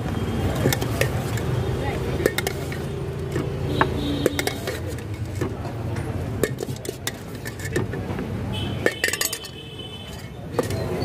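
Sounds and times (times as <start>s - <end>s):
metal spoon scraping steel bowl: 0.4s - 11.0s.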